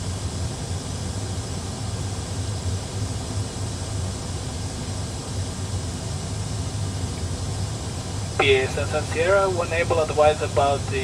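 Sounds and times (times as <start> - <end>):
cockpit rumble and airflow rush: 0.0 - 11.0.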